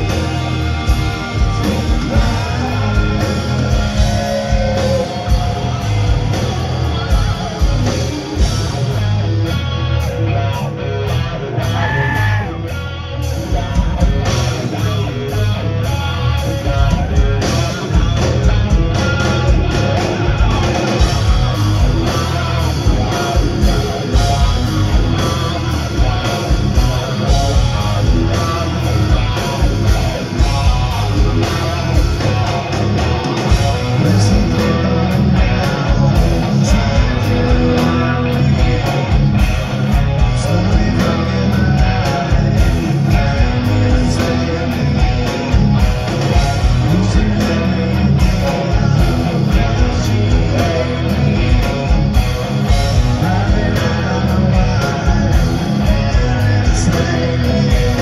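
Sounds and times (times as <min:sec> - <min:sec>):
live heavy rock band: 0:00.0 - 0:58.0.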